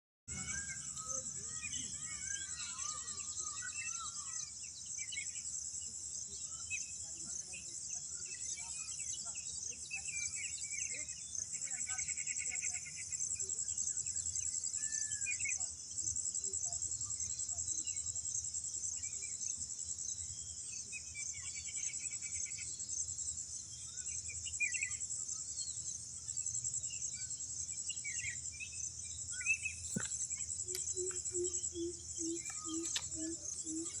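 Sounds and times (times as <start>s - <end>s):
high-pitched insect chorus: 0.3s - 34.0s.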